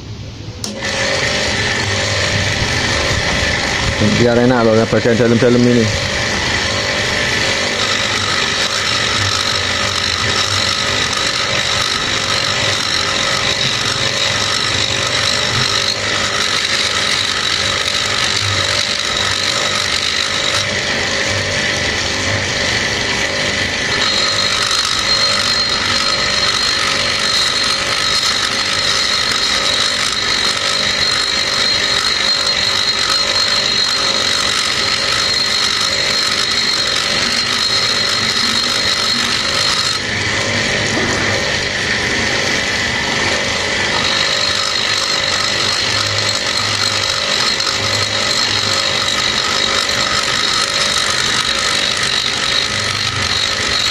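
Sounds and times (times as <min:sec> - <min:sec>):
rotary tool grinding metal: 0:00.6 - 0:53.9.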